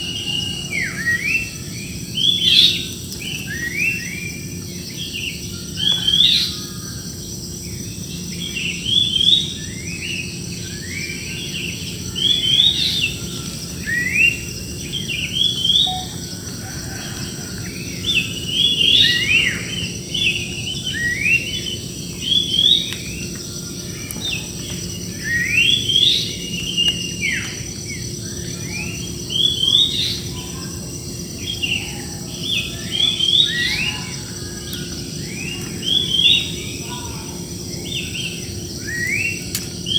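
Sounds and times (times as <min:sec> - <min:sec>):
high-pitched insect drone: 0:00.0 - 0:39.9
small birds chirping: 0:00.0 - 0:39.9.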